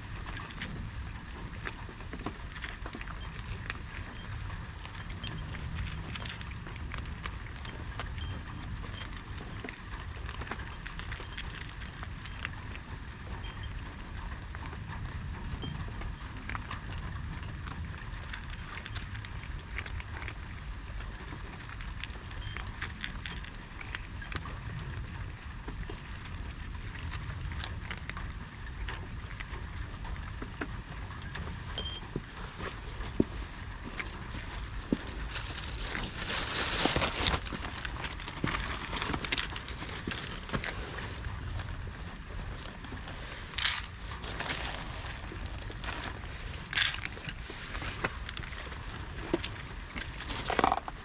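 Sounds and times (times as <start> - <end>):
small clicks and ticks: 0.1 - 41.8.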